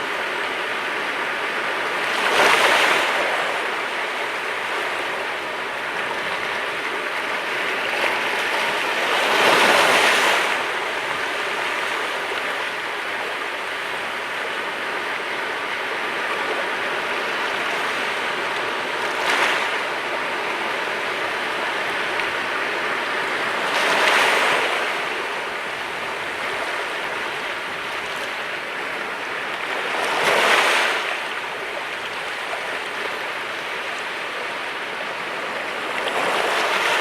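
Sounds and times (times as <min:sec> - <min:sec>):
sea waves breaking on shore: 0:00.0 - 0:37.0.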